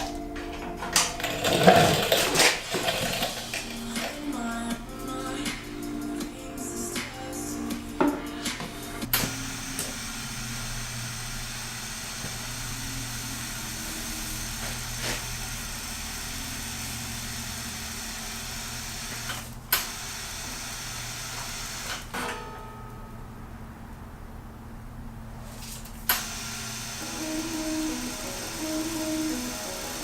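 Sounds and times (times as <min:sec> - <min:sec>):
machine humming: 0:00.0 - 0:30.0
machine hiss: 0:01.1 - 0:22.1, 0:26.1 - 0:30.0.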